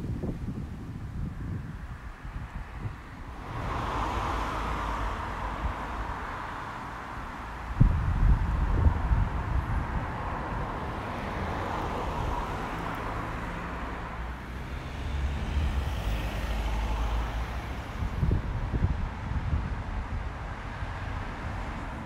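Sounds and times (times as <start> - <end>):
road traffic rumble: 0.0 - 22.0
wind gusts buffeting microphone: 0.0 - 22.0.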